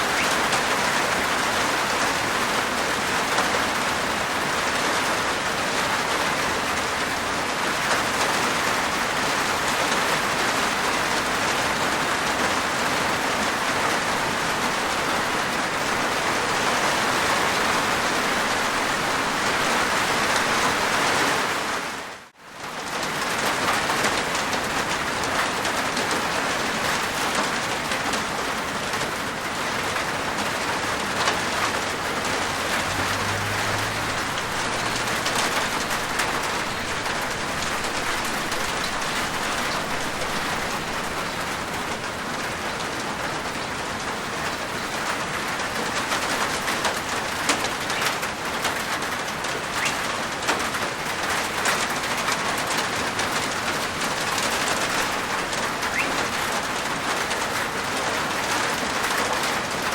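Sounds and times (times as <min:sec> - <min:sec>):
heavy rain on rooftop: 0:00.0 - 0:59.9.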